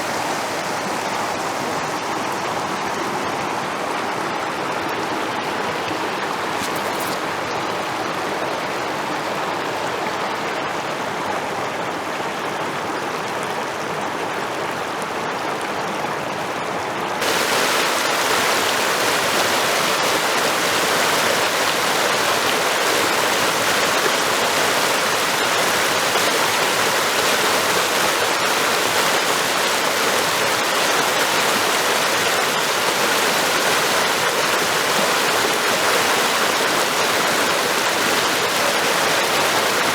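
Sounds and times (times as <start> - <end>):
water rushing: 0.0 - 10.6, 16.7 - 39.9.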